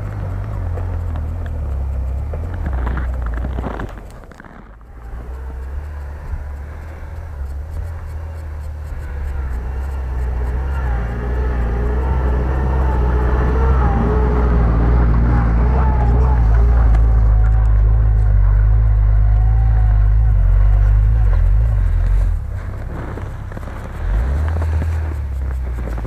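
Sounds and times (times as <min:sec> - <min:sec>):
suv engine rumbling: 0:00.0 - 0:26.0.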